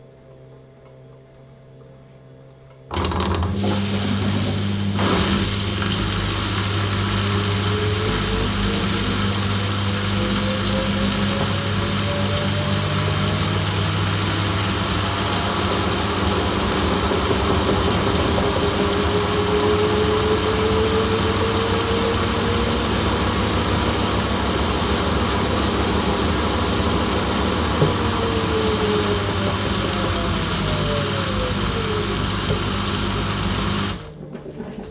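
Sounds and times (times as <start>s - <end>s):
washing machine running: 2.9s - 34.9s.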